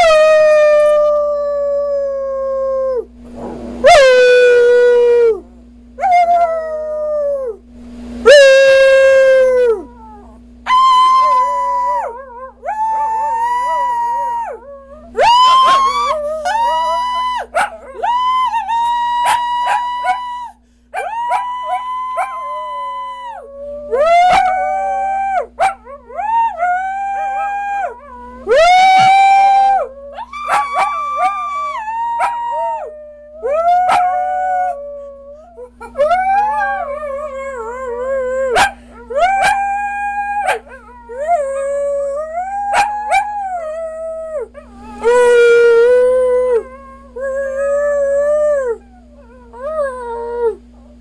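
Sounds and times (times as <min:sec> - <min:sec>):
dog howling: 0:03.8 - 0:07.6, 0:08.3 - 0:51.0.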